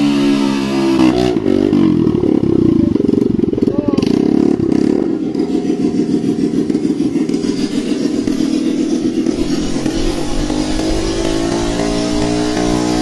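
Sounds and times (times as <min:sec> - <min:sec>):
exhaust blasting water: 0:00.0 - 0:13.0
motorcycle engine revving: 0:00.0 - 0:13.0.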